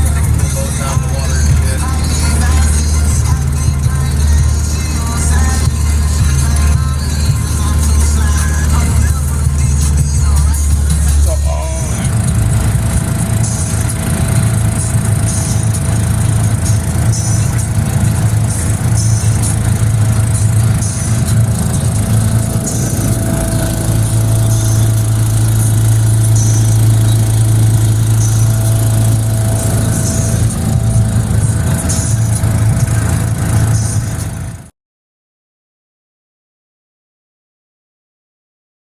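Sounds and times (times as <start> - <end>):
boat engine idling: 0.0 - 34.7.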